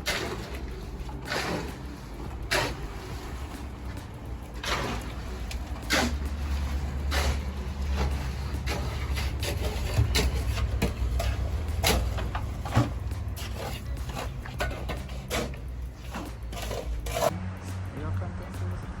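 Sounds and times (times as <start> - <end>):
sharp knocks and clatter: 0.0 - 17.4
large engine rumbling: 0.0 - 19.0.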